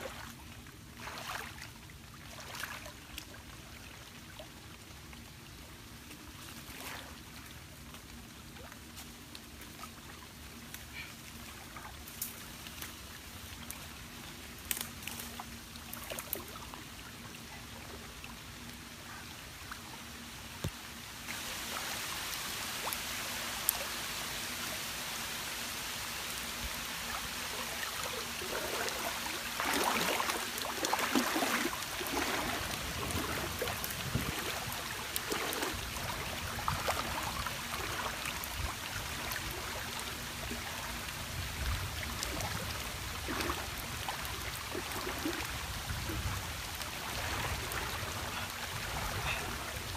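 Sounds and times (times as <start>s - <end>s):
water splashing around wading person: 0.0s - 25.3s, 26.3s - 49.9s.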